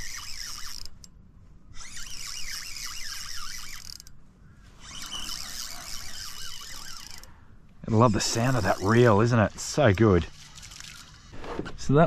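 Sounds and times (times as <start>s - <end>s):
fishing reel whirring: 0.0s - 11.4s.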